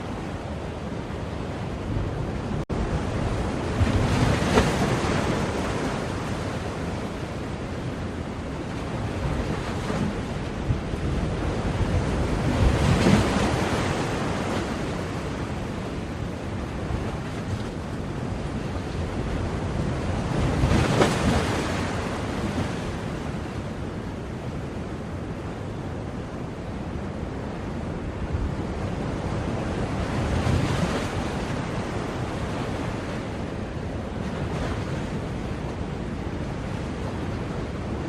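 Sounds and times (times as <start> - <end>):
ocean waves breaking: 0.0 - 24.2, 27.2 - 38.0.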